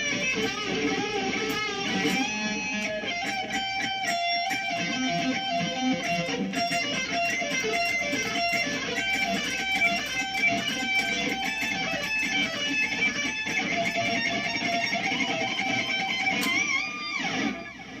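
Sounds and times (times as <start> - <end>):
electric guitar notes: 0.0 - 18.0.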